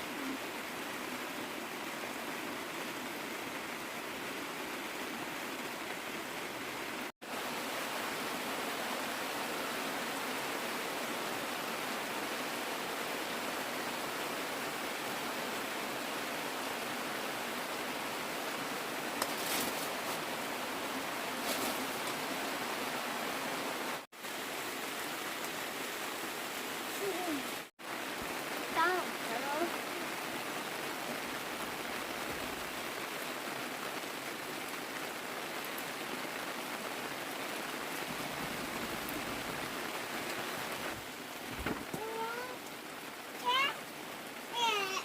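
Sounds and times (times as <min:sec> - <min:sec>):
heavy rain hissing: 0:00.0 - 0:45.0.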